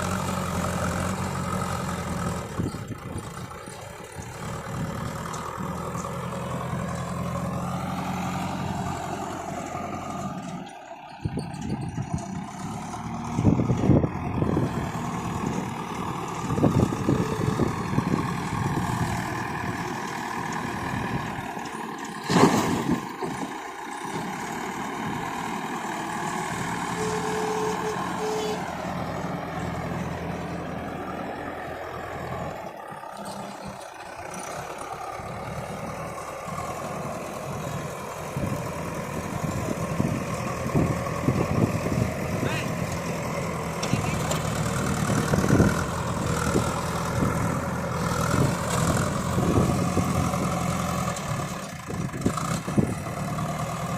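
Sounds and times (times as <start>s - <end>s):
backhoe diesel engine working: 0.0s - 53.9s.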